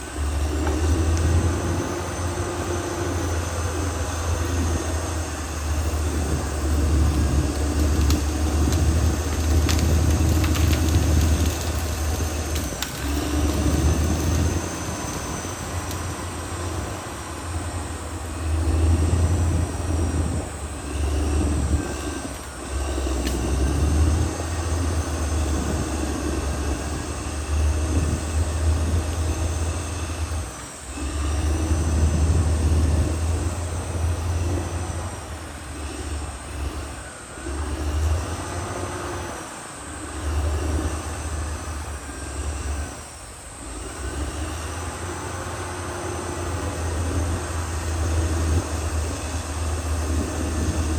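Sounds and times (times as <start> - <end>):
bulldozer diesel engine rumbling: 0.0 - 50.9.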